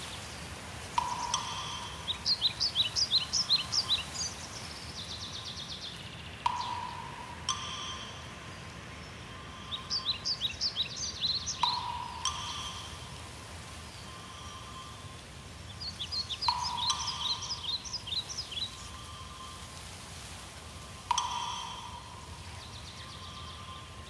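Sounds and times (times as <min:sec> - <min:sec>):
songbird chirping: 0:00.0 - 0:24.0
steady background hiss: 0:00.0 - 0:24.0.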